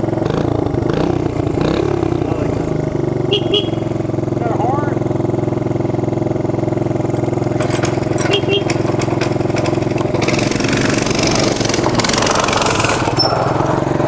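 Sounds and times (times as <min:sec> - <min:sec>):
mini bike engine: 0:00.0 - 0:14.0.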